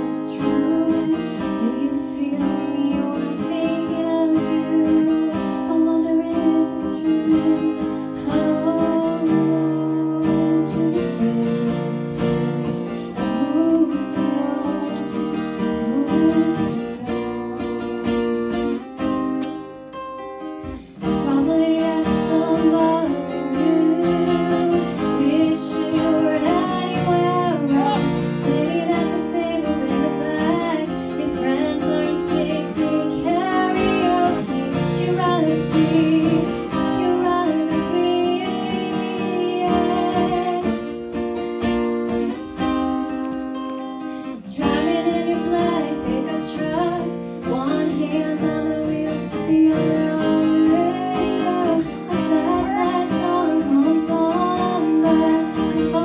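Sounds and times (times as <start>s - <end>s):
young woman singing: 0.0s - 18.6s, 20.8s - 41.0s, 44.3s - 56.0s
acoustic guitars strumming: 0.0s - 56.0s.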